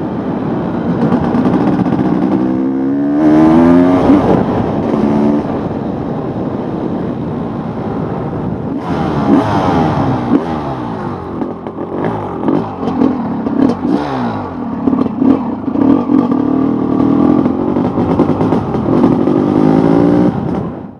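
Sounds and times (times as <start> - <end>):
two-stroke motorcycle engine revving: 0.0 - 6.9, 8.2 - 20.9.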